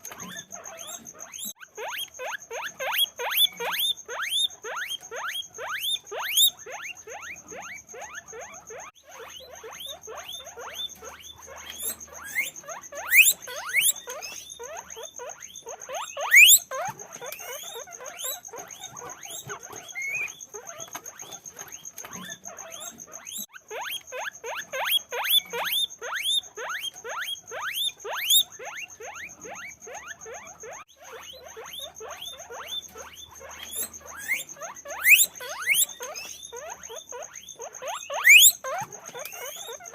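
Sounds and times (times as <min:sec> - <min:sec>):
guinea pigs squeaking: 0:00.0 - 0:39.9.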